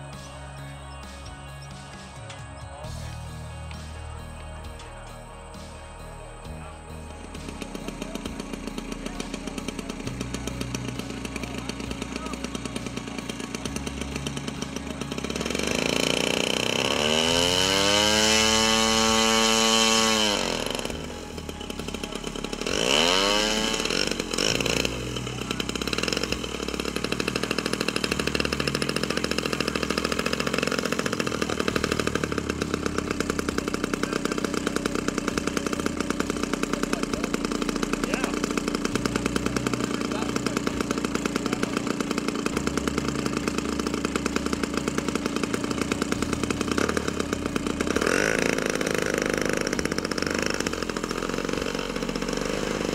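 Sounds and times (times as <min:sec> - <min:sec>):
model aircraft engine revving: 0:00.0 - 0:52.9.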